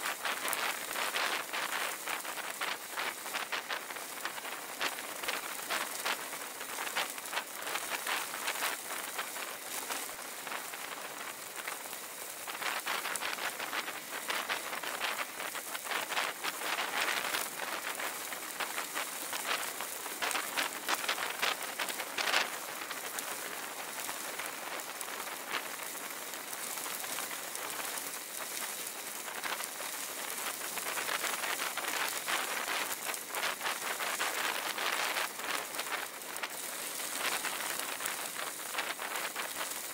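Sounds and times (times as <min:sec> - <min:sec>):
bicycle tyres on gravel: 0:00.0 - 0:39.9.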